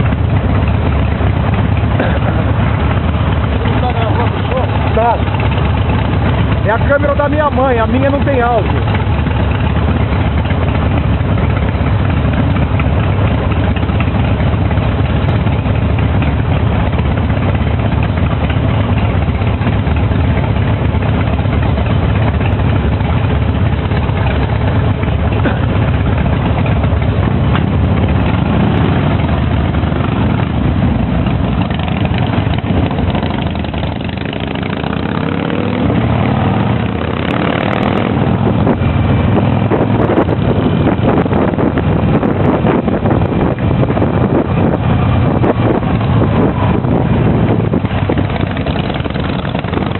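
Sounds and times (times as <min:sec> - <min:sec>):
motorcycle engines running: 0:00.0 - 0:49.9.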